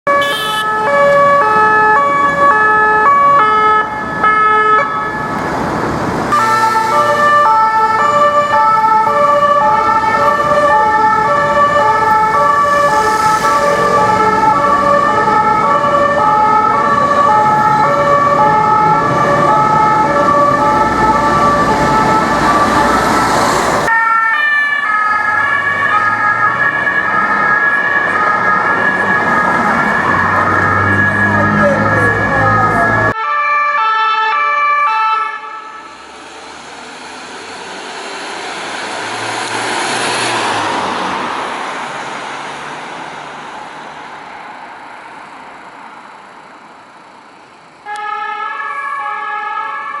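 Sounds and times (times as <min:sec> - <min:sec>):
traffic noise: 0:00.0 - 0:50.0
two-tone emergency sirens: 0:00.1 - 0:42.6, 0:47.8 - 0:50.0.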